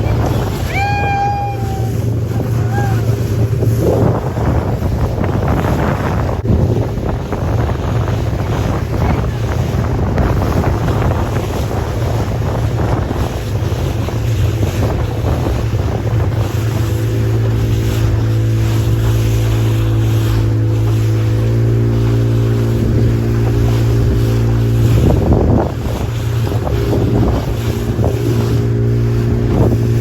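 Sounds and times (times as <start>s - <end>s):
motorboat engine running: 0.0s - 30.0s
water rushing past hull: 0.0s - 30.0s
wind buffeting microphone: 0.0s - 30.0s.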